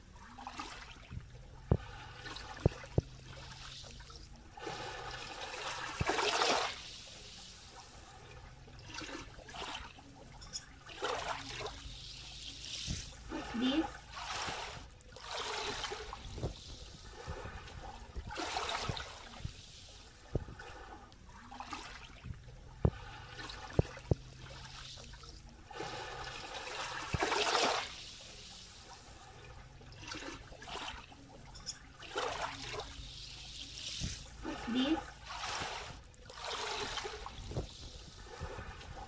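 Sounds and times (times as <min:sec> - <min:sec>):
small waves lapping on shore: 0:00.0 - 0:39.0.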